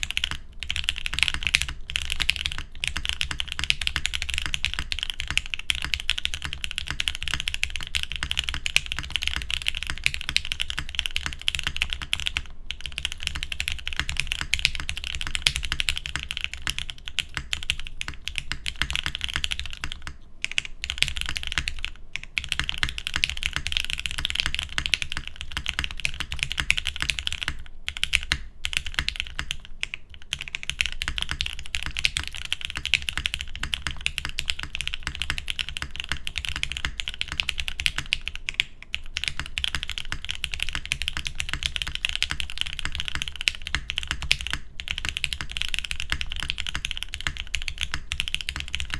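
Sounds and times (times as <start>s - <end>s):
mechanical keyboard typing: 0.0s - 48.9s.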